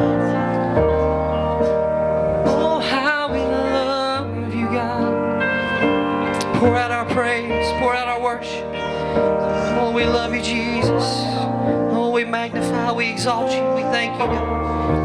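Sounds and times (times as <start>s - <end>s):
person singing: 0.0s - 15.0s
sustained keyboard chords: 0.0s - 15.0s.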